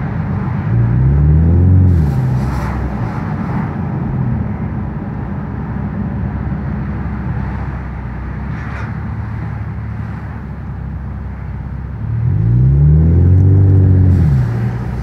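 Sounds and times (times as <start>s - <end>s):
car engine heard from inside: 0.0s - 15.0s.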